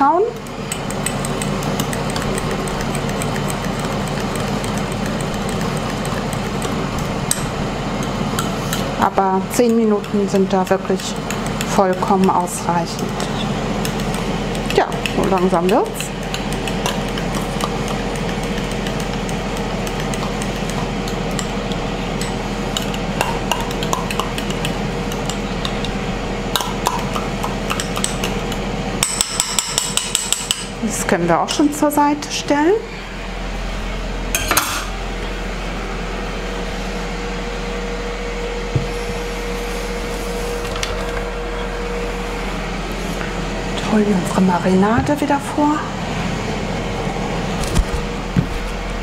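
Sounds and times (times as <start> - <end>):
multicooker fan whir and hum: 0.0 - 49.0.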